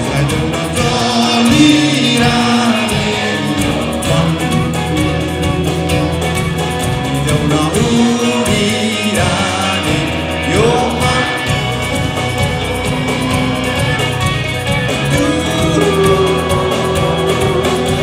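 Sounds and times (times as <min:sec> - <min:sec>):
person singing: 0:00.0 - 0:06.2, 0:07.0 - 0:18.0
acoustic guitar: 0:00.0 - 0:18.0
electric guitar: 0:00.0 - 0:18.0
keyboard: 0:00.0 - 0:18.0.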